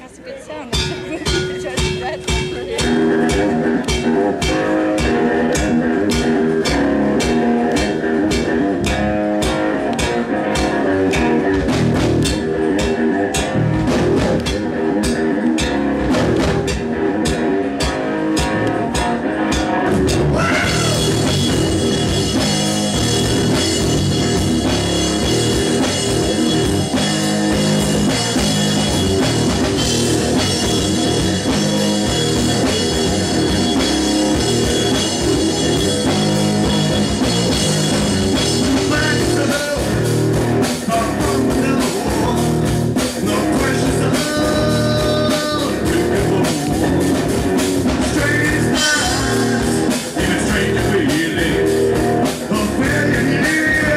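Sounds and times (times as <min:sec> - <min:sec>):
bass guitar: 0:00.0 - 0:53.9
electric guitar: 0:00.5 - 0:53.9
drum kit: 0:00.6 - 0:53.9.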